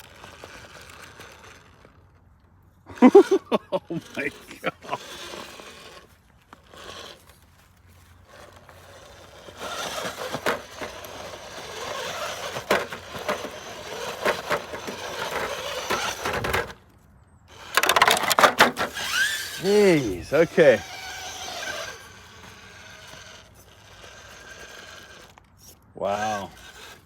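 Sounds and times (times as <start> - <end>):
tyres scraping and clicking on rock: 0.0 - 2.2, 4.0 - 27.0
electric motor whining: 2.9 - 16.8, 17.5 - 27.0.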